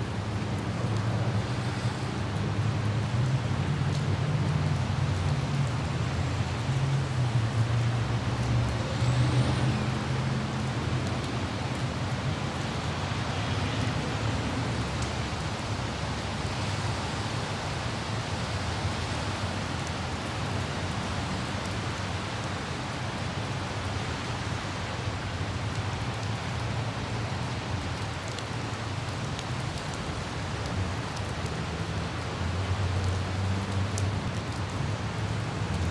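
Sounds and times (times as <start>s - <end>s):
rain hiss: 0.0s - 35.9s
traffic rumble: 0.0s - 35.9s.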